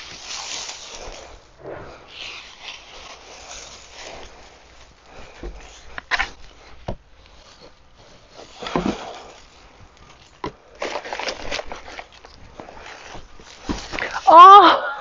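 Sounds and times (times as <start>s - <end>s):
dry leaves rustling and crunching: 0.0s - 1.5s, 2.1s - 14.6s.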